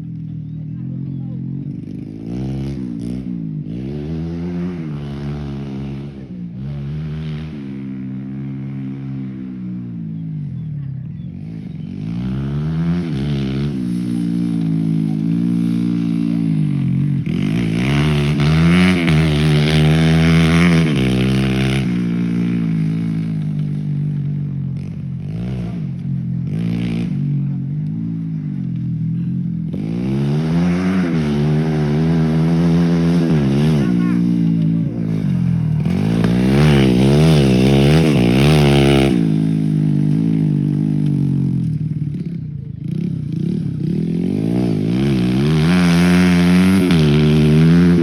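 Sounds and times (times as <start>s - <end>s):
motocross engines revving: 0.0s - 48.0s.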